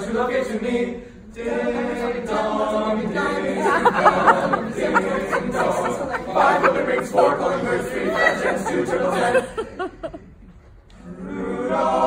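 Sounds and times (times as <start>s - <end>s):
boys singing in close harmony: 0.0s - 10.2s, 11.0s - 12.0s.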